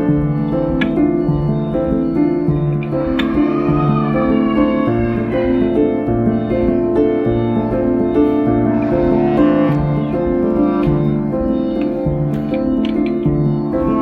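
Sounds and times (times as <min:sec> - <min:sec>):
bass line: 0:00.0 - 0:14.0
piano chords: 0:00.0 - 0:14.0.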